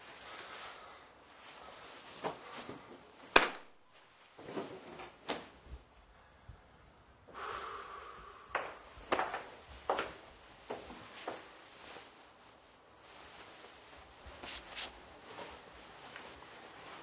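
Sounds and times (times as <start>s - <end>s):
bedding rustling: 0.0s - 6.1s, 9.0s - 17.0s.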